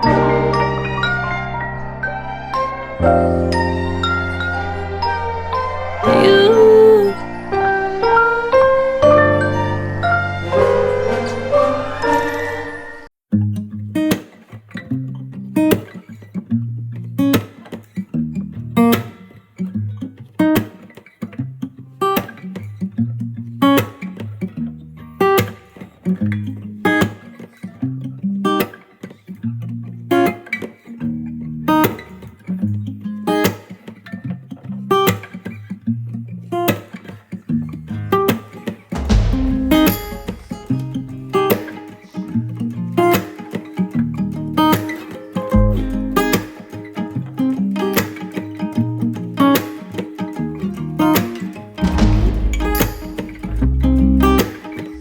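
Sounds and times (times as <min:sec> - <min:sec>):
strummed guitar music with bass: 0:00.0 - 0:05.2, 0:13.3 - 0:55.0.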